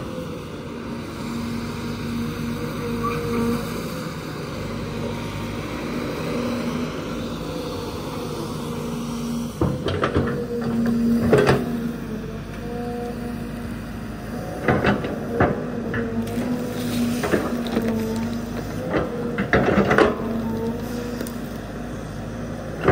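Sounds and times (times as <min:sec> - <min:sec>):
excavator engine and hydraulics: 0:00.0 - 0:22.9.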